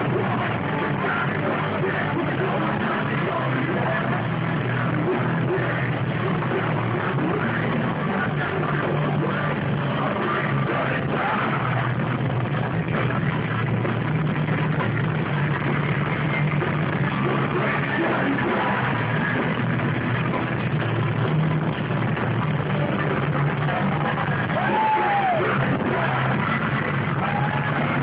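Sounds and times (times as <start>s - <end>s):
heavy metal band playing live: 0.0s - 28.0s.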